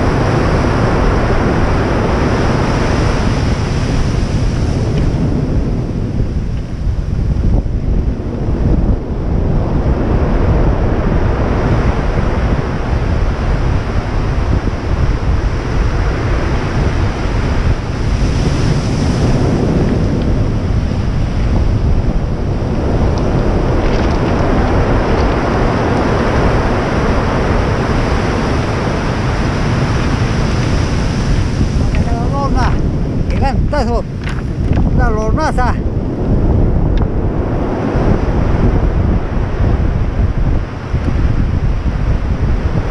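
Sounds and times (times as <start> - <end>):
sea surf breaking on shore: 0.0 - 42.9
wind rumble on microphone: 0.0 - 42.9.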